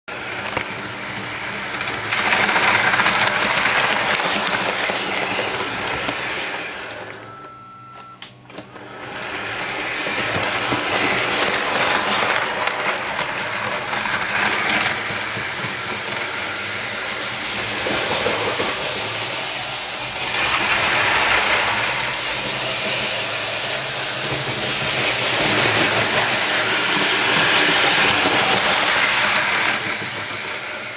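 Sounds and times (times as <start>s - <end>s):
model train rumbling: 0.1s - 7.4s, 8.5s - 30.9s.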